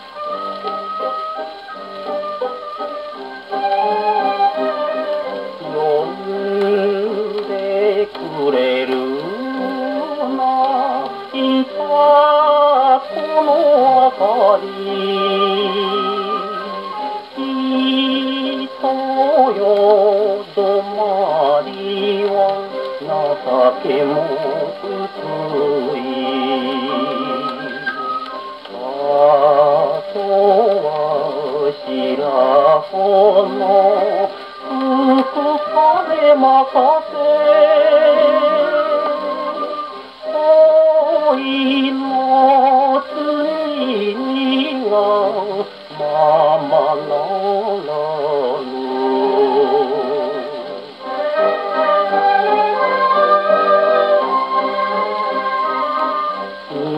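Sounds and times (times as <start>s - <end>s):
gramophone record playing song: 0.0s - 56.9s.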